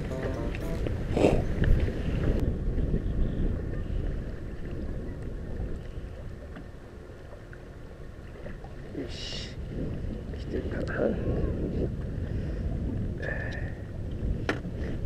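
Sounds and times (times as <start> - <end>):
wind rumbling on microphone: 0.8 - 15.0.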